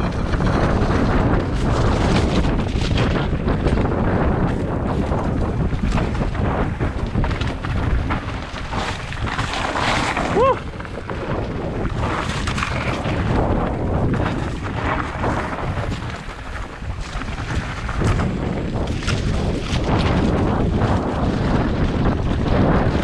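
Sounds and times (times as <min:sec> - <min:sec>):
bike rumbling and rattling: 0:00.0 - 0:23.0
wind buffeting microphone: 0:00.0 - 0:23.0.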